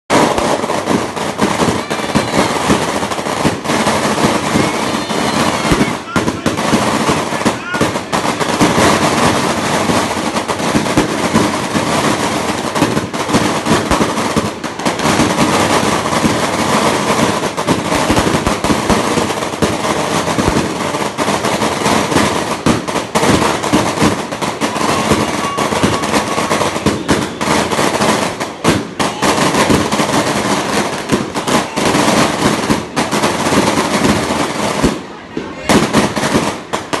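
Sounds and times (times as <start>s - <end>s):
firecrackers crackling: 0.1s - 37.0s.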